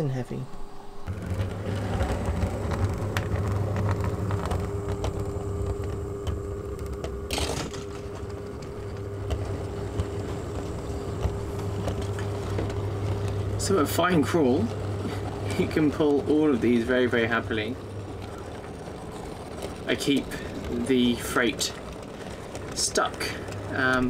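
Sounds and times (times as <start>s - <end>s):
model train motor humming: 1.0s - 24.0s
wheels clicking on track: 1.1s - 24.0s.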